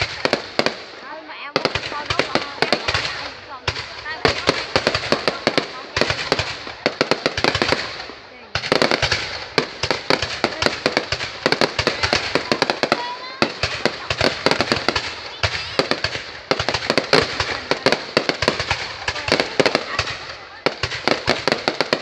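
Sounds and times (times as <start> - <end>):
firecrackers popping: 0.0 - 22.0.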